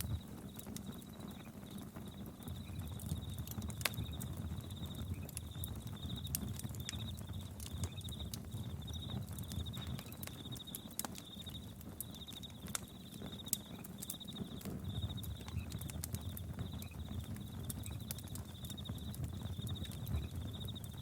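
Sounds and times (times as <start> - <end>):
campfire crackling: 0.0 - 21.0
crickets chirping: 0.0 - 21.0.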